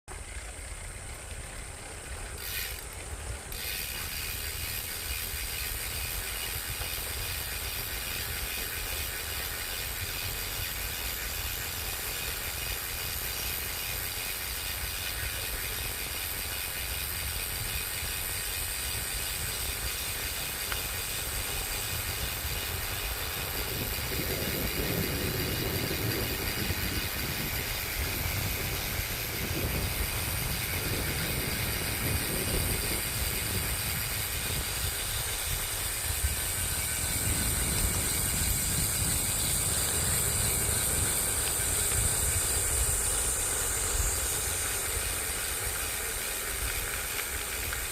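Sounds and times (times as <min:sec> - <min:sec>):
insect chorus buzzing: 0:00.1 - 0:47.9.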